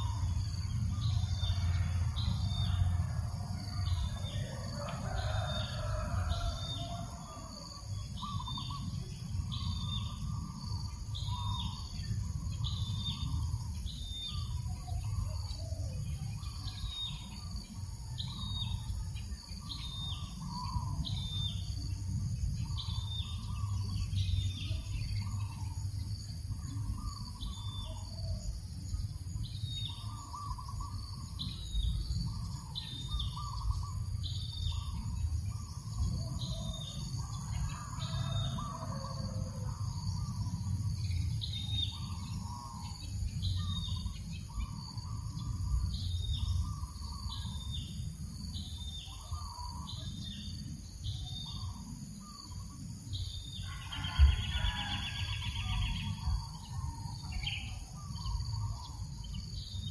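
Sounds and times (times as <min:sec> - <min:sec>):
low breeze rumble: 0:00.0 - 0:54.6
lower bird chirps: 0:00.0 - 0:59.9.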